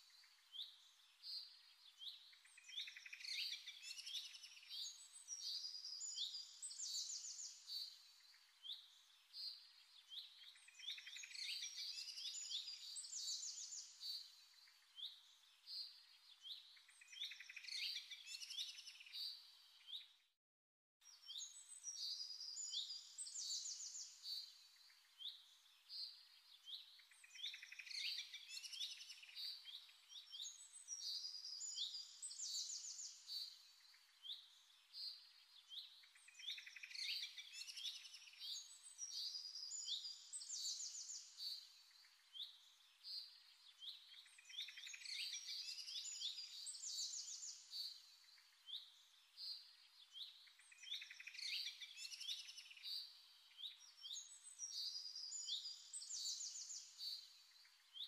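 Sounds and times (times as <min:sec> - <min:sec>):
songbirds chirping and singing: 0:00.0 - 0:20.3, 0:21.0 - 0:58.0.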